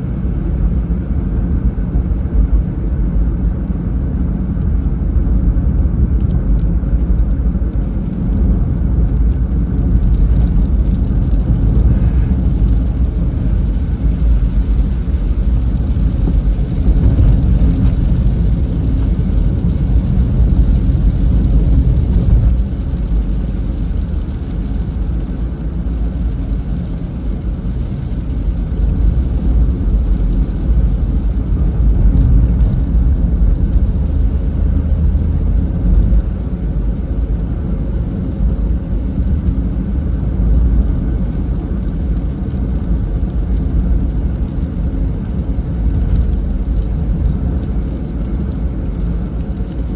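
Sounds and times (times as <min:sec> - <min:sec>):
tyres and engine rumbling: 0:00.0 - 0:49.9.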